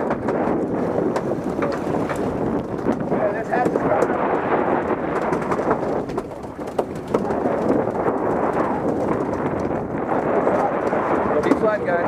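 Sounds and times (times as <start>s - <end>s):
sea water rushing along boat: 0.0s - 12.0s
wind: 0.0s - 12.0s.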